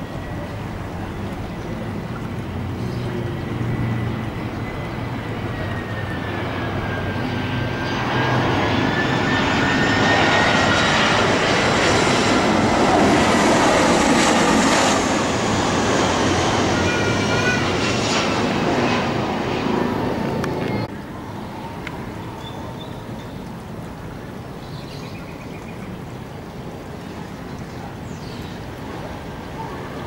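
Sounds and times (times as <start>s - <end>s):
jet airliner landing overhead: 0.0s - 30.0s.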